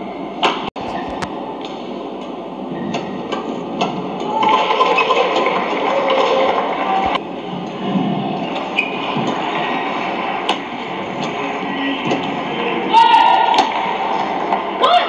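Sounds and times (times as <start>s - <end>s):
crowd and hall noise: 0.0s - 15.0s.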